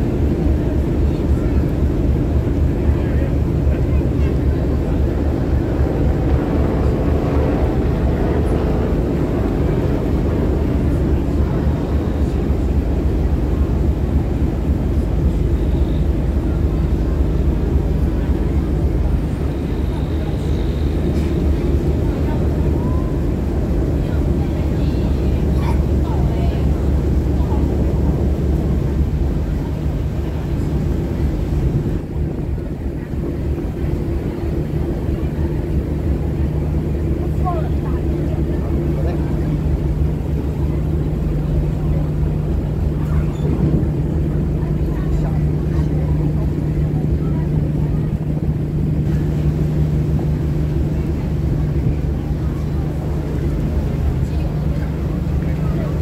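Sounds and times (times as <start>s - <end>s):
boat engine drone: 0.0s - 56.0s
water noise: 0.0s - 56.0s
wind: 0.0s - 56.0s.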